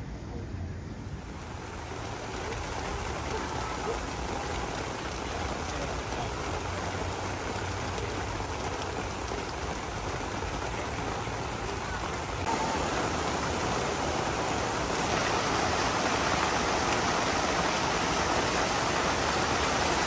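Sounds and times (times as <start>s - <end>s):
heavy rain falling: 1.3s - 20.0s.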